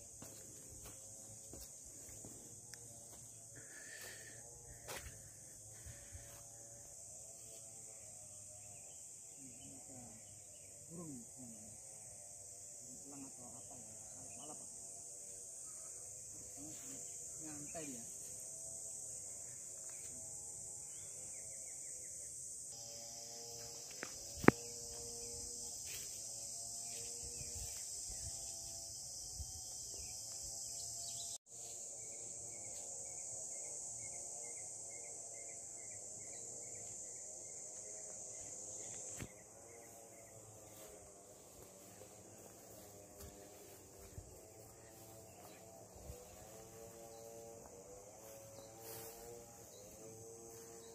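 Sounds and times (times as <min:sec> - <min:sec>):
insect chorus buzzing: 0:00.0 - 0:50.9.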